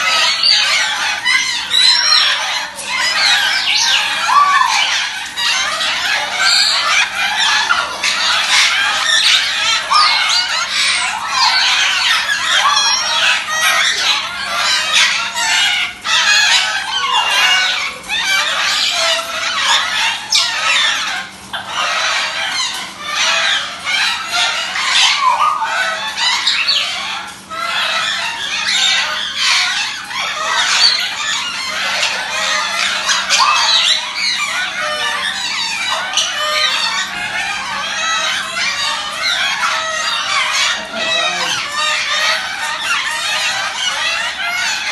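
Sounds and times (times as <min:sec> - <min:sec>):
parrot chick squawking: 0:00.0 - 0:44.9.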